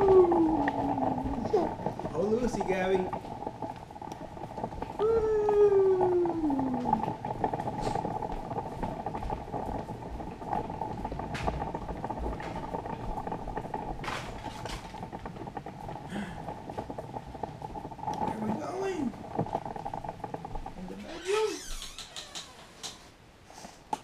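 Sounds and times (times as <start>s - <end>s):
stroller wheels rolling on wood: 0.0s - 24.0s.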